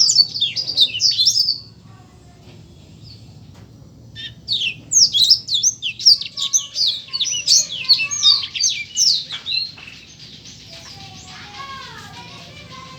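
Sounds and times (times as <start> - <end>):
songbird chirping: 0.0 - 12.9.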